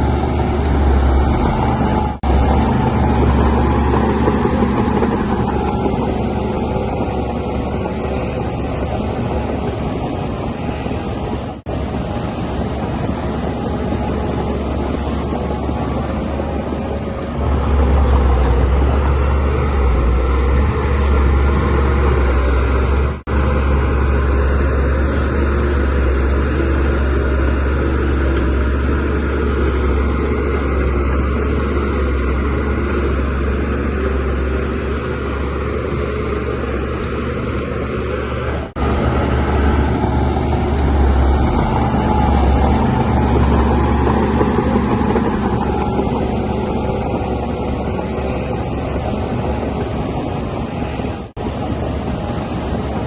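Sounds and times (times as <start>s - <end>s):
bulldozer diesel engine humming: 0.0s - 53.0s.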